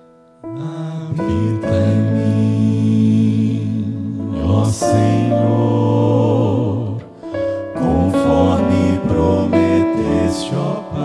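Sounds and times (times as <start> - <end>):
male choir singing sustained chord: 0.5 - 11.0.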